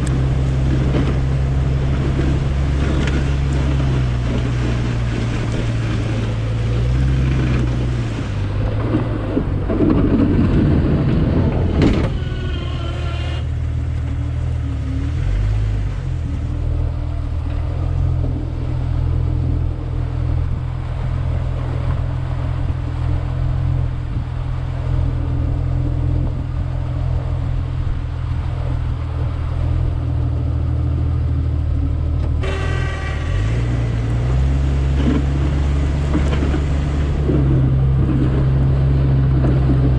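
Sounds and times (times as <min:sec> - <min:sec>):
engine running under load: 0:00.0 - 0:39.9
snow plow scraping: 0:00.0 - 0:39.9.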